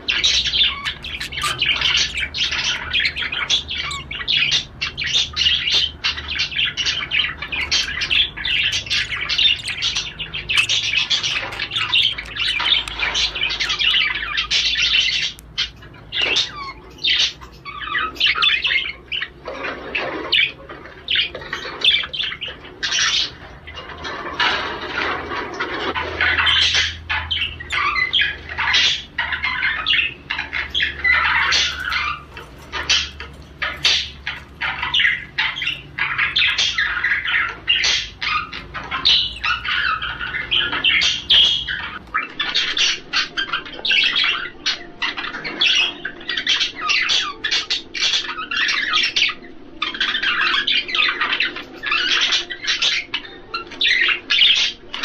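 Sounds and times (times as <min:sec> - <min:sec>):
budgerigar warbling and chirping: 0:00.0 - 0:55.0.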